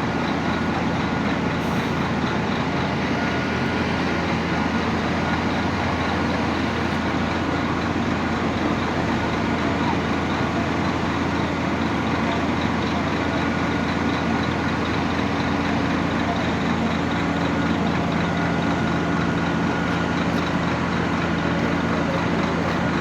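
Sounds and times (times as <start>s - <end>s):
heavy vehicle engine running: 0.0s - 23.0s
road traffic: 0.0s - 23.0s.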